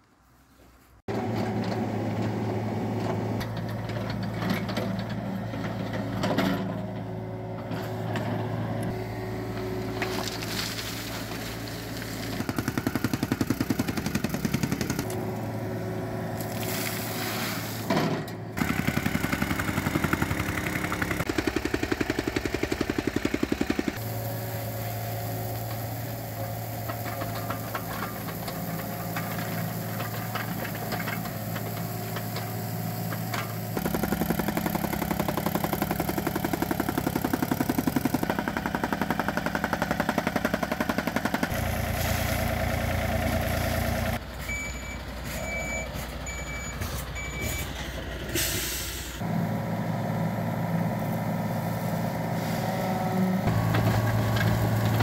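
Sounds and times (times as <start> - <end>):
diesel engine running: 1.1 - 55.0.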